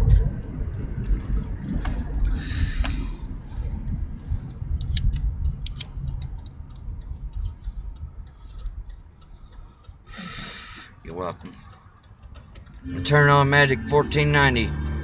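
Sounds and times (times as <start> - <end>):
sharp clicks: 0.1 - 12.9.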